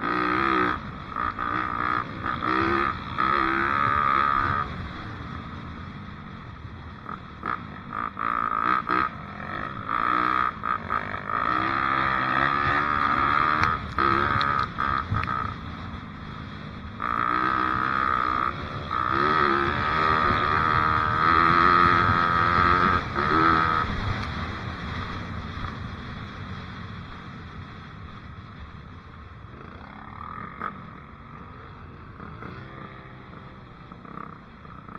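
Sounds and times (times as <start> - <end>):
dirt bike engine revving: 0.0 - 5.3, 7.0 - 25.2, 29.5 - 34.9.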